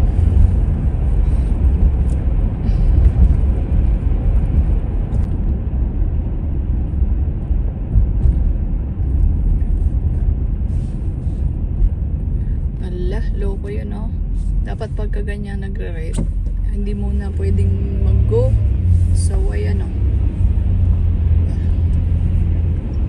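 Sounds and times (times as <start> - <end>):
car driving on wet road: 0.0 - 15.3, 15.9 - 23.0.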